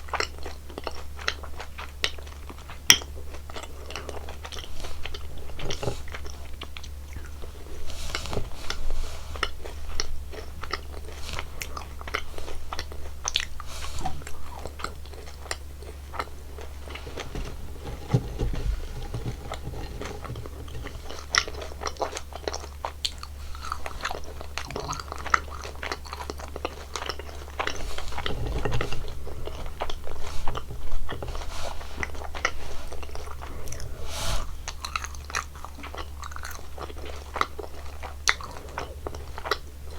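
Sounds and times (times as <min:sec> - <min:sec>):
biting and chewing candy: 0:00.0 - 0:39.9
steady low hum: 0:00.0 - 0:39.9.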